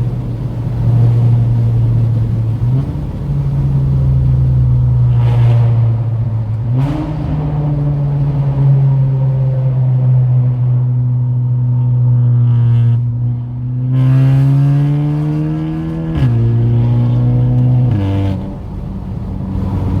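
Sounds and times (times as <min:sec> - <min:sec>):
car driving with low drone: 0:00.0 - 0:20.0.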